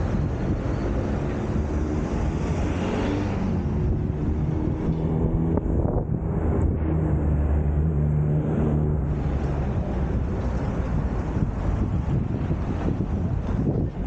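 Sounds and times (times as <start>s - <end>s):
vehicles passing with engine rumble: 0.0s - 14.0s.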